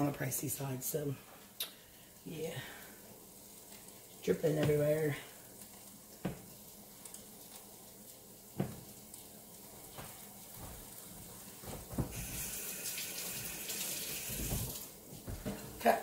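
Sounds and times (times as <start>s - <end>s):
kitchen tap running water: 0.0s - 15.6s.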